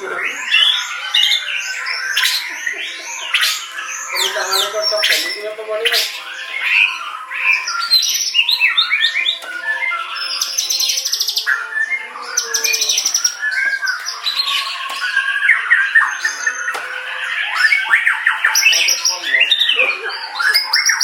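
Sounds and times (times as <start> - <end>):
bird singing whistled phrases: 3.2 - 21.0.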